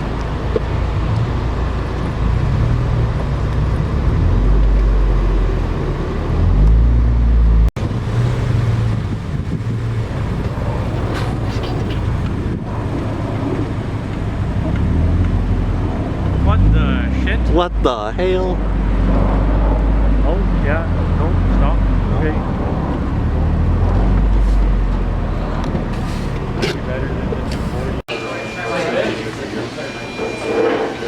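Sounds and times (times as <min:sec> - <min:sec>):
car engine drone: 0:00.0 - 0:31.0
road noise: 0:00.0 - 0:31.0.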